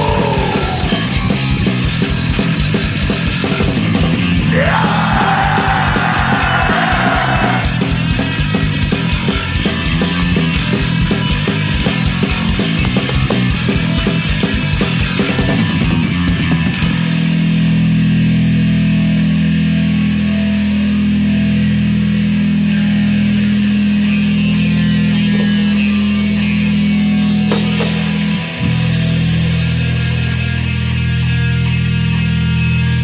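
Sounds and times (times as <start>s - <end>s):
bass drone: 0.0s - 33.0s
distorted electric guitar drone: 0.0s - 33.0s
drums: 0.0s - 33.0s.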